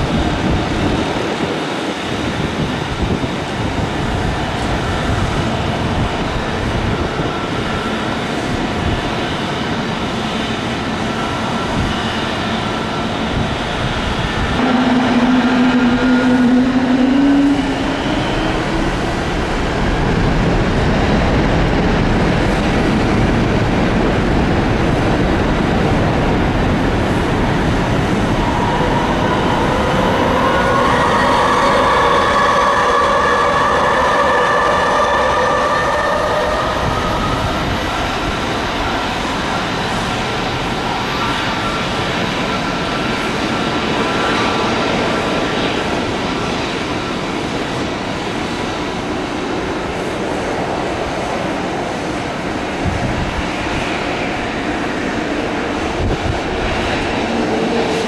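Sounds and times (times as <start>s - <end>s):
jet engine rush: 0.0s - 58.0s
jet engine whine: 0.0s - 58.0s.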